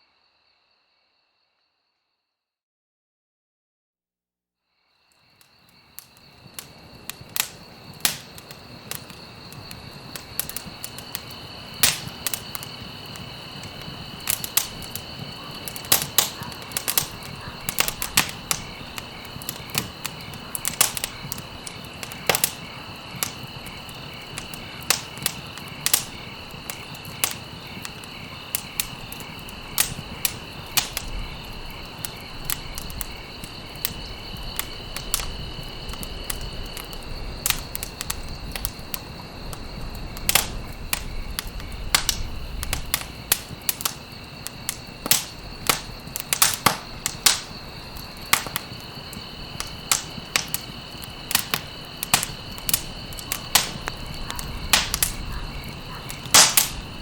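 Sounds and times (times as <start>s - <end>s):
crickets chirping: 0.0s - 2.4s, 4.6s - 57.0s
campfire crackling and popping: 5.2s - 57.0s.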